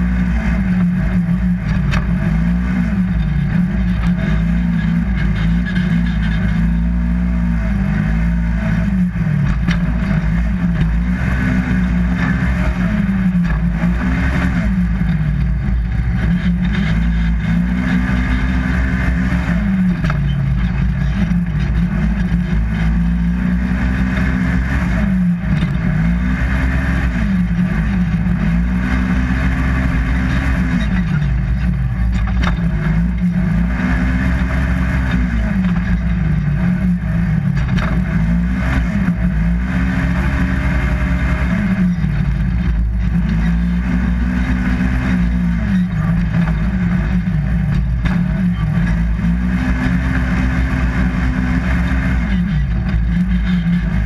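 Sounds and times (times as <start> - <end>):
engine revving: 0.0 - 54.0
steady low rumble: 0.0 - 54.0.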